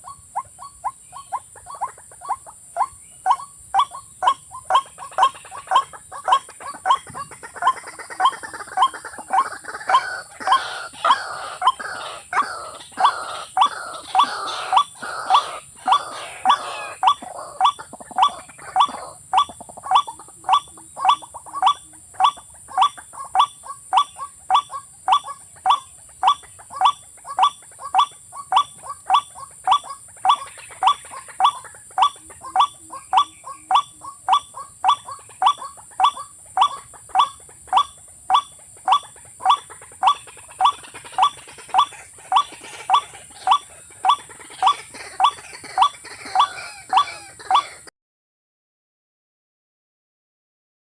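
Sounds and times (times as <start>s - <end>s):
bird calling: 0.0s - 47.9s.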